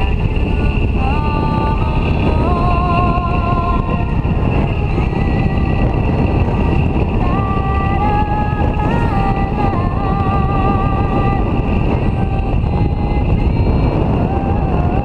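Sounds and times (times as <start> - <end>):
motorcycle engine drone: 0.0 - 15.0
wind rush: 0.0 - 15.0.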